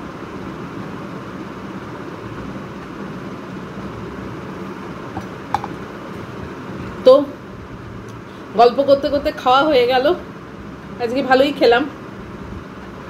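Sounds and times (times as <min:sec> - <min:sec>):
ceiling fan hiss and hum: 0:00.0 - 0:13.0.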